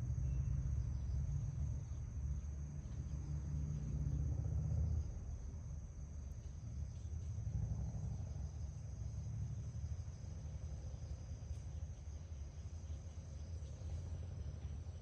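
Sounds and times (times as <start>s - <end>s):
crickets trilling: 0.0s - 15.0s
low steady rumble: 0.0s - 15.0s.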